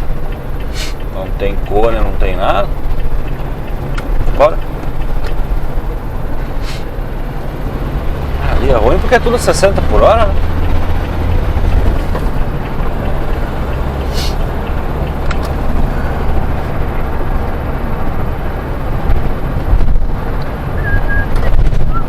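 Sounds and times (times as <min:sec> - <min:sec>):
diesel engine and road noise: 0:00.0 - 0:22.0.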